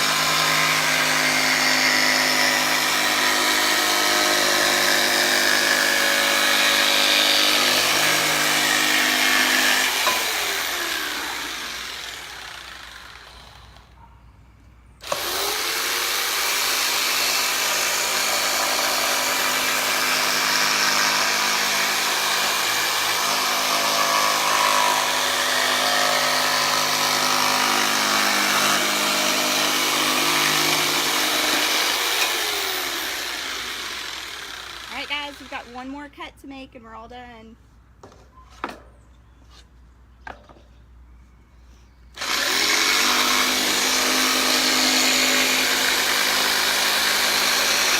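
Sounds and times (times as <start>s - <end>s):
electric jigsaw cutting wood: 0.0s - 14.0s, 15.0s - 35.9s, 42.2s - 47.9s.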